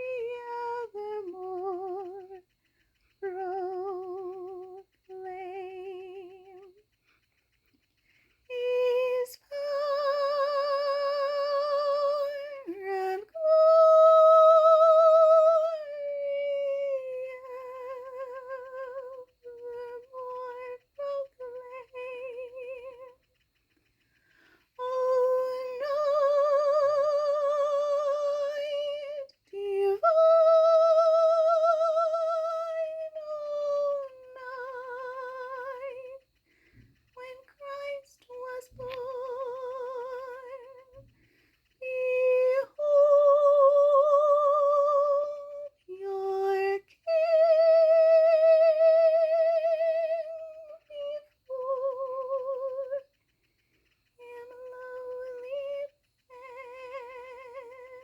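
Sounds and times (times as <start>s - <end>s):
woman singing long held notes: 0.0s - 58.0s.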